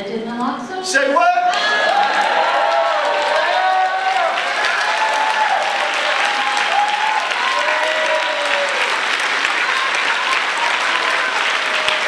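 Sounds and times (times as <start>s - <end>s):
voices cheering: 1.2s - 12.0s
audience applauding: 1.3s - 12.0s.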